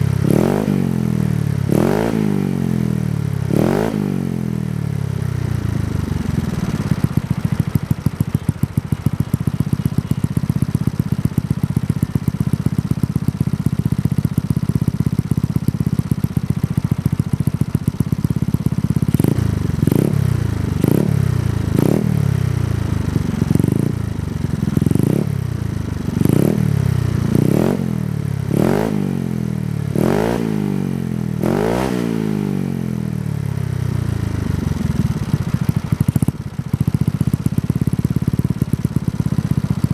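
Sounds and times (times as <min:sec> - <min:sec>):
scooter engine idling: 0:00.0 - 0:39.9
scooter engine throttle blips: 0:03.0 - 0:29.0, 0:33.3 - 0:39.9.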